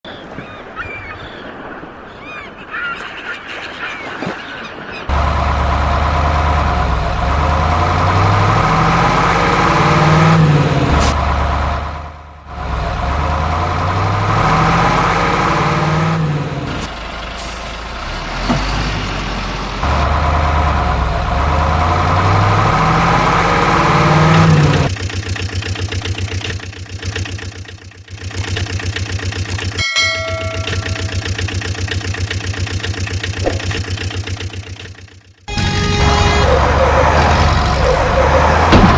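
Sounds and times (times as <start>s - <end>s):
heavy vehicle engine revving: 5.1s - 38.9s.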